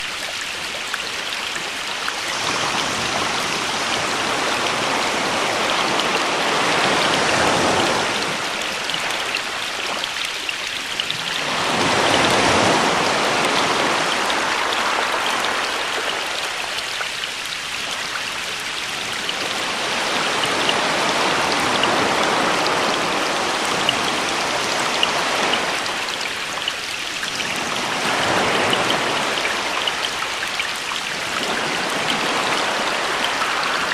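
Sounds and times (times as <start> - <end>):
rain pattering: 0.0 - 33.9
sea waves surging: 2.0 - 10.2, 11.1 - 16.7, 19.0 - 26.6, 27.4 - 33.9.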